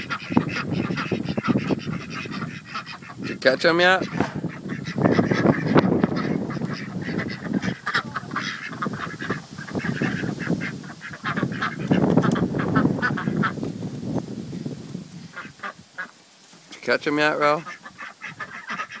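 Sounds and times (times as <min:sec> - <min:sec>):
ducks quacking: 0:00.0 - 0:13.7, 0:15.2 - 0:19.0.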